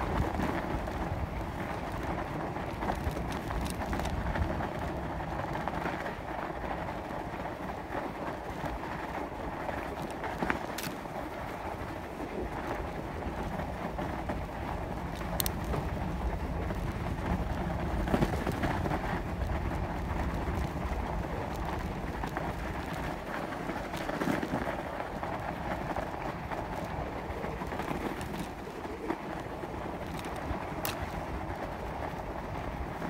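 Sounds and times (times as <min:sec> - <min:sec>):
bicycle tyres rolling over snow: 0:00.0 - 0:33.0.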